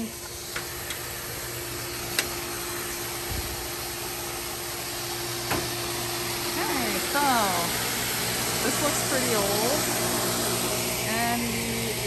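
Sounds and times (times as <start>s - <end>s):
pool filter pump humming: 0.0s - 12.0s.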